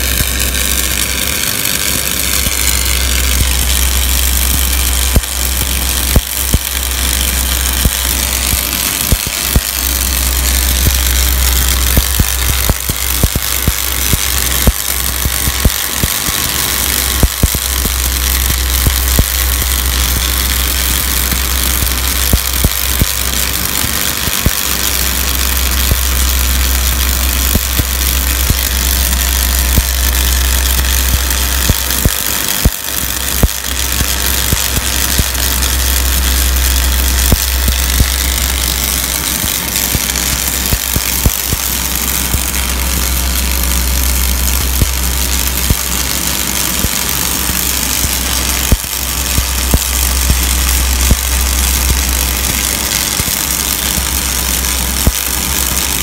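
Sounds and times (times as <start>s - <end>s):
sharp pops: 0.0s - 46.0s
deep hum: 0.0s - 55.3s
welding arc crackling: 0.0s - 56.0s.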